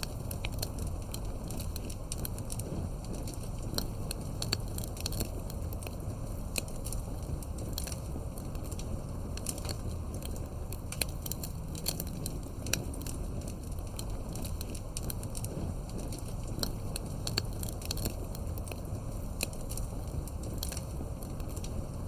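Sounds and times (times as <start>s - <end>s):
campfire crackling: 0.0s - 22.0s
low rumble of burning: 0.0s - 22.0s.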